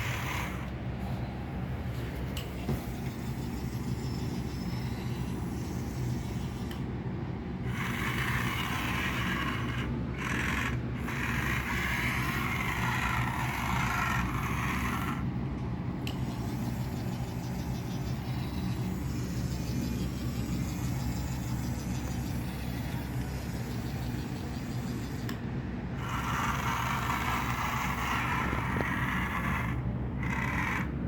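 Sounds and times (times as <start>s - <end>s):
toy gears grinding: 0.0s - 0.7s, 2.4s - 6.8s, 7.6s - 15.3s, 16.0s - 25.4s, 26.0s - 31.0s
toy motors humming: 0.0s - 31.0s.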